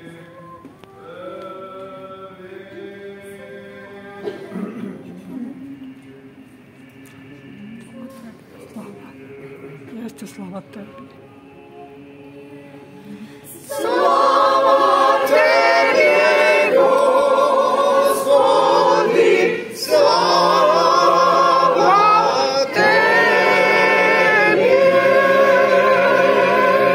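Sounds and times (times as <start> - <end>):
choir singing a cappella chant: 0.0 - 26.9.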